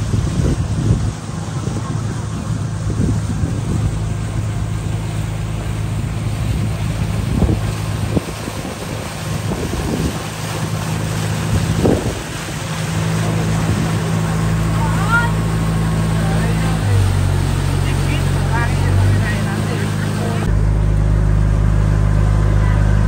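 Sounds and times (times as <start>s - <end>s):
wind buffeting microphone: 0.0s - 19.1s
motorboat engine droning: 0.0s - 23.0s.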